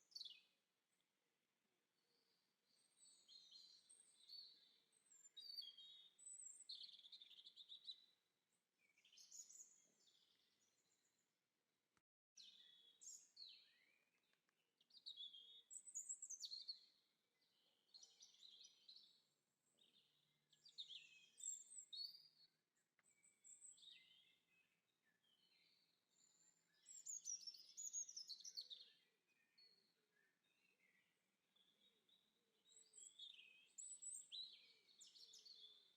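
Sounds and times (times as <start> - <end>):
songbirds chirping: 0.0 - 11.4, 12.4 - 35.9.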